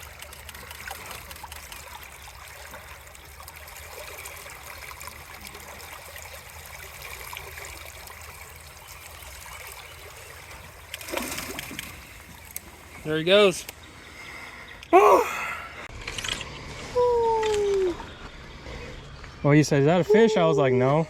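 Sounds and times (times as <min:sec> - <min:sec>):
river water running and trickling: 0:00.0 - 0:18.2.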